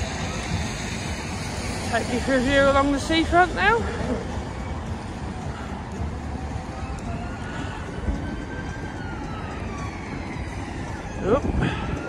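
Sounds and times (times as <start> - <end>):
faint ambulance siren: 0.0 - 2.2, 3.0 - 12.0
road traffic: 0.0 - 12.0
wind: 0.0 - 12.0.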